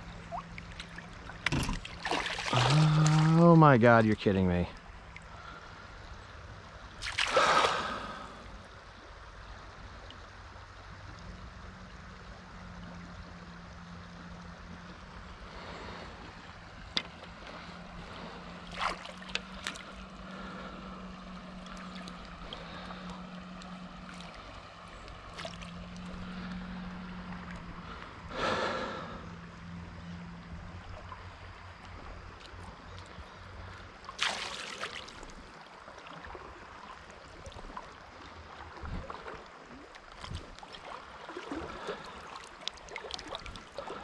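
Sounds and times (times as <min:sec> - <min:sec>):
low steady hum: 0:00.0 - 0:44.0
river water running and lapping: 0:00.0 - 0:44.0.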